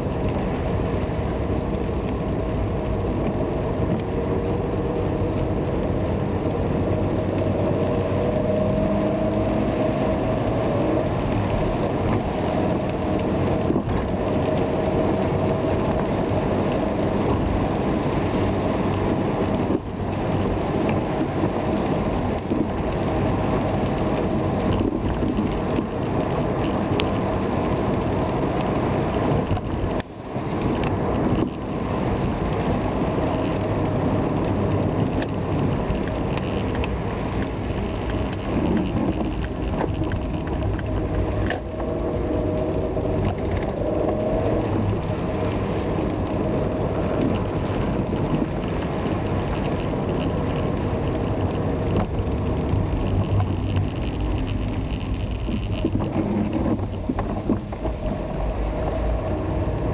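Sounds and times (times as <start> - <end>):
vehicle engine: 0.0 - 59.9
wet road noise: 0.0 - 59.9.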